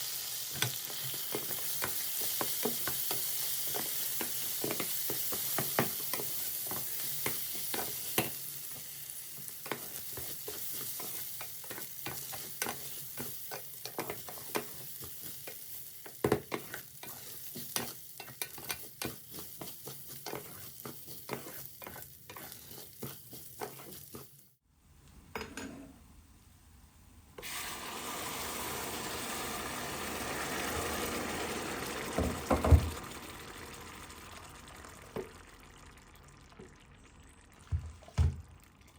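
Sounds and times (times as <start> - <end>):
food sizzling in a frying pan: 0.0 - 24.6, 27.4 - 38.8.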